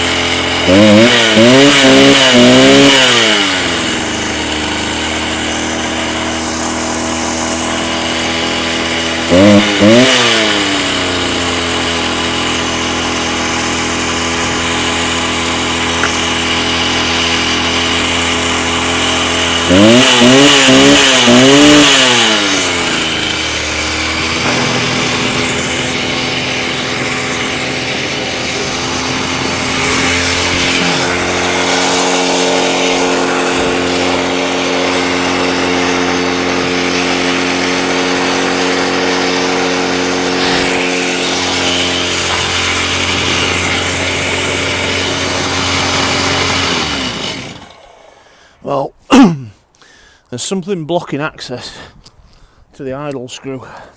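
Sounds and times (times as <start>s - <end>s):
two-stroke engine idling and revving: 0.0s - 48.3s.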